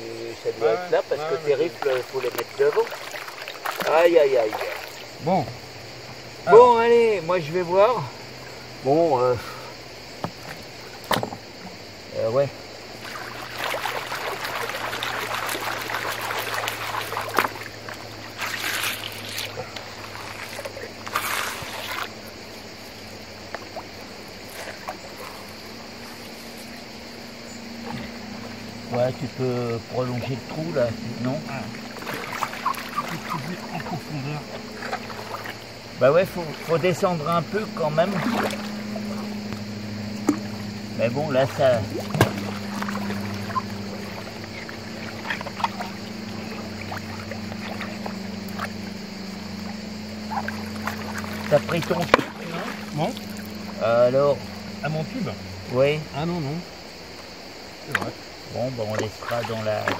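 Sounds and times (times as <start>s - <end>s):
river water swishing in a pan: 0.0s - 59.9s
water splashing: 0.0s - 59.9s
steady low hum: 4.4s - 59.9s.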